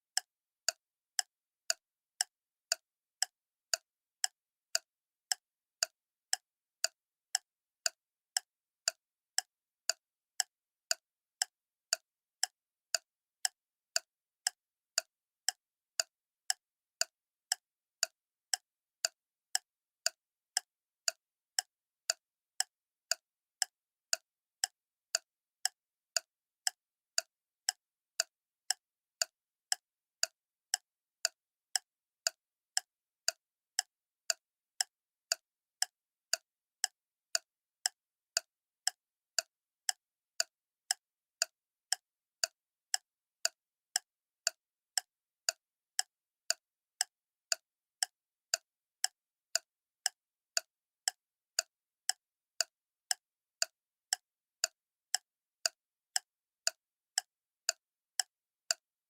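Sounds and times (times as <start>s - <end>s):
clock ticking: 0.2s - 58.8s.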